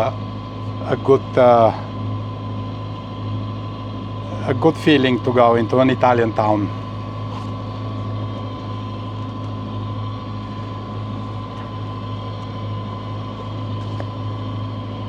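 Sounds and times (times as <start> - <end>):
boat diesel engine droning: 0.0 - 15.0.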